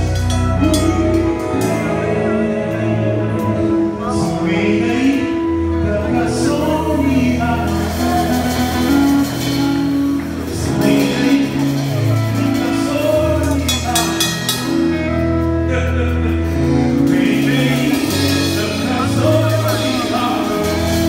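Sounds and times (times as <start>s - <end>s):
church band playing gospel: 0.0s - 21.0s
person singing: 0.0s - 21.0s.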